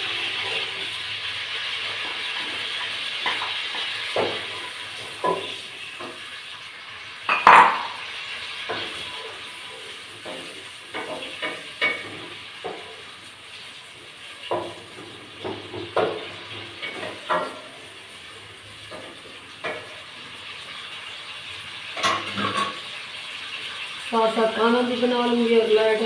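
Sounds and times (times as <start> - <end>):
food sizzling in a pot: 0.0 - 26.0.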